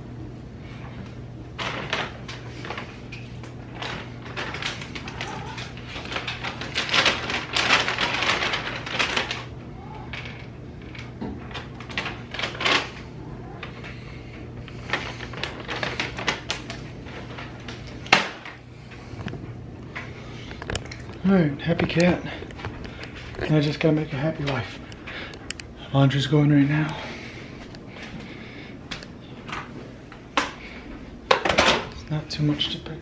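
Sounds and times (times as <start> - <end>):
household things clattering: 1.5 - 14.1, 14.7 - 25.6, 26.6 - 32.9.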